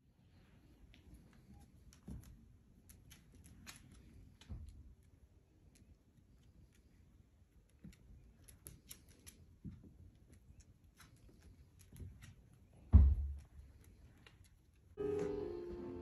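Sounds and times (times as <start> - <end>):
puppy claws on hardwood floor: 0.9 - 15.0.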